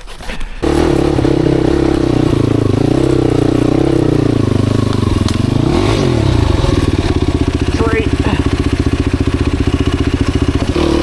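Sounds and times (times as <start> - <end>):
motorcycle engine running: 0.6 - 11.0.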